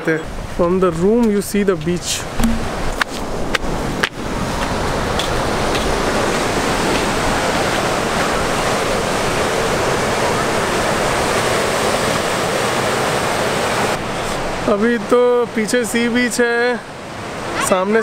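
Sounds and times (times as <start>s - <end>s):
sea surf breaking: 2.0s - 18.0s.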